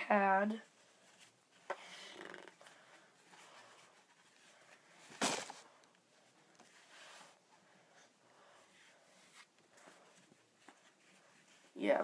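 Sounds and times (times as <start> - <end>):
handling and rustling: 0.5 - 12.0.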